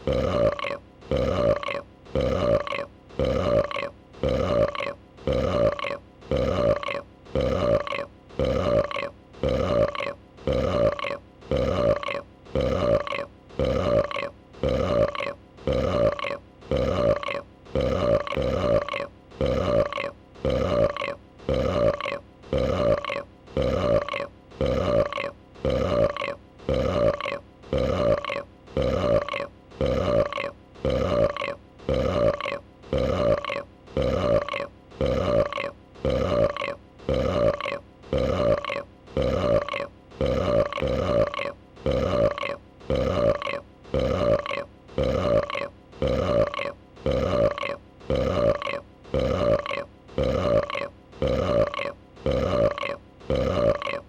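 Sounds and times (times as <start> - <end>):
pitched burp: 0.0 - 54.0.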